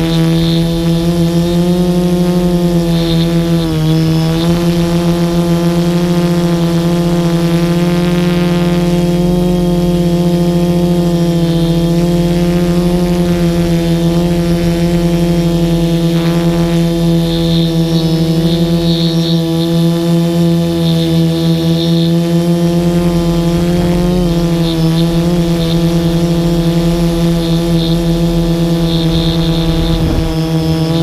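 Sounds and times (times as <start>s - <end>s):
drone propellers humming: 0.0s - 31.0s.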